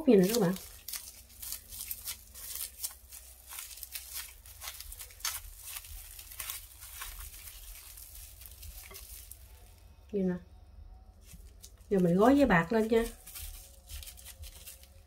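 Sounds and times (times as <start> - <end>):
plastic bag crinkling: 0.0 - 9.9, 11.2 - 15.0.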